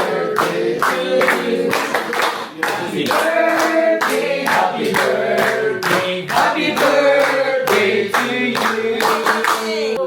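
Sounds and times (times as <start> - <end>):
group of people singing: 0.0 - 10.0
people clapping along: 0.0 - 10.0.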